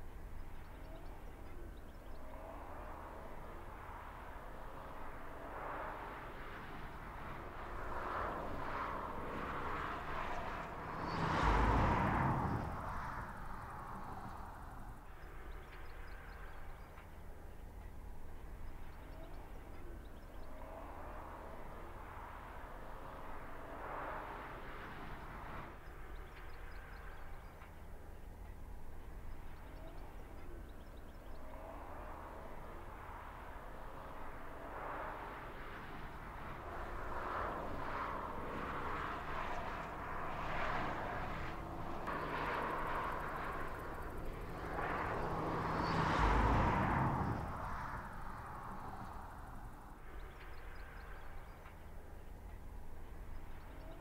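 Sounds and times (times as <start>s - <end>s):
passing vehicle engine hum: 0.0s - 54.0s.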